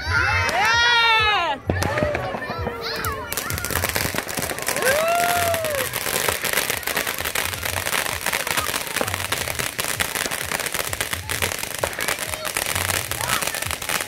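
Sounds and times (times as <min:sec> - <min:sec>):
fireworks crackling and popping: 0:00.3 - 0:14.0.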